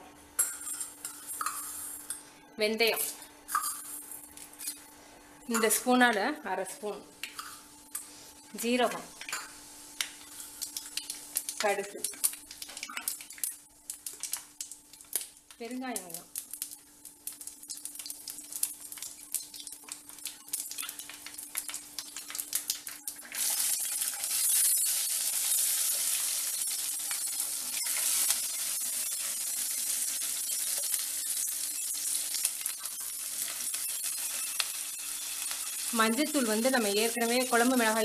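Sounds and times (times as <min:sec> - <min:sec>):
loud sizzle of frying: 0:00.0 - 0:38.0
seeds crackling in hot oil: 0:03.0 - 0:04.8, 0:05.5 - 0:38.0.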